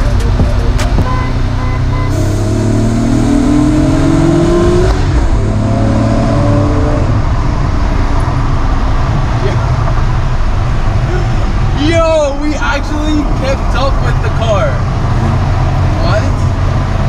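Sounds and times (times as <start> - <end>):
sports car engine accelerating: 0.0 - 17.0.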